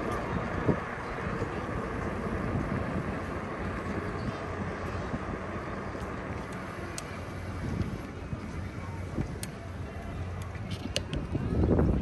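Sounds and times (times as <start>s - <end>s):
road noise from moving bike: 0.0s - 12.0s
wind rushing over microphone: 0.0s - 12.0s.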